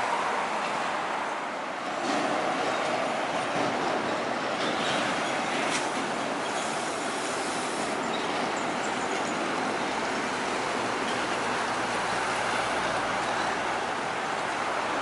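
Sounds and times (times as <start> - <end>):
traffic tyre and engine noise: 0.0 - 15.0.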